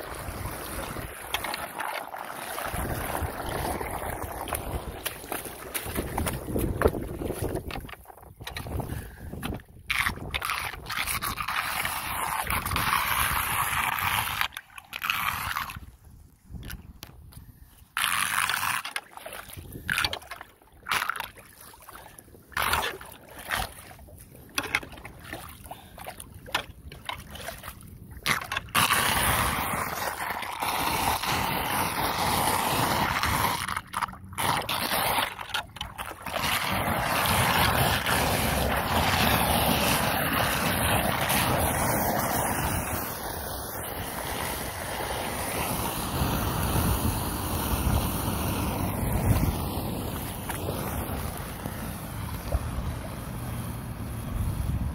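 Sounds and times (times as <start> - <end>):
wind noise on microphone: 0.0 - 1.8, 2.4 - 21.0, 26.8 - 54.9
water rushing down storm drain: 0.0 - 15.8, 22.0 - 54.3.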